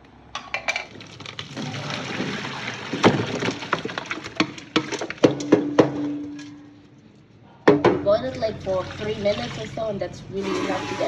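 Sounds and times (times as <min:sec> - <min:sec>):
water sloshing in a pot: 0:00.6 - 0:06.6, 0:08.0 - 0:11.0.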